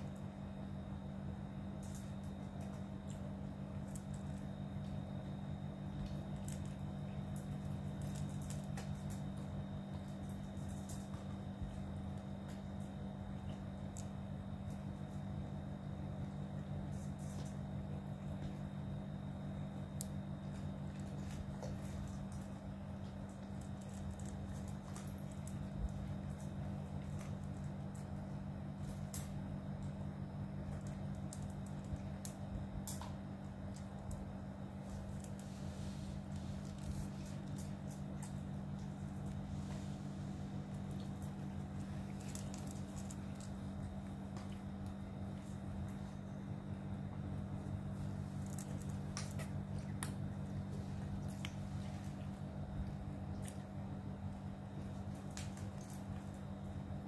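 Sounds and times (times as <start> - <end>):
cats crunching dry kibble: 0.0 - 57.0
low hum: 0.0 - 57.0.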